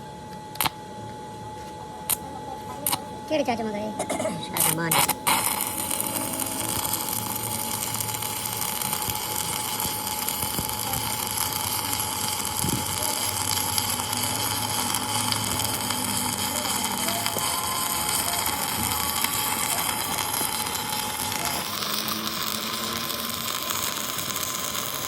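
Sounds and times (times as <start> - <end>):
machine running with whine: 0.0 - 25.0
steady rushing hiss: 4.7 - 25.0.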